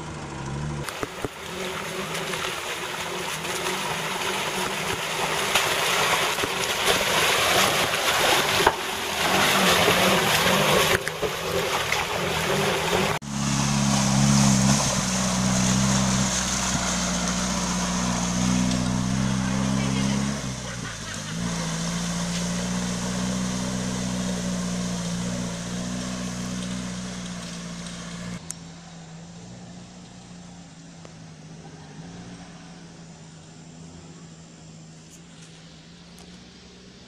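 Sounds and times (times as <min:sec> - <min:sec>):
off-road vehicle engine droning: 0:00.0 - 0:37.0
tyres churning through mud: 0:00.0 - 0:37.0.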